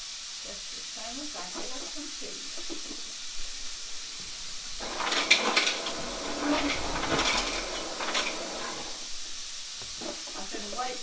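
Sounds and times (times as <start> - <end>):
chicken sizzling in hot oil: 0.0 - 8.4, 9.0 - 11.0.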